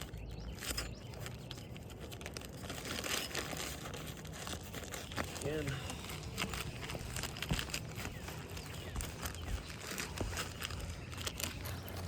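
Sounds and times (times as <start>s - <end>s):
shingles crinkling and crackling: 0.0s - 12.0s.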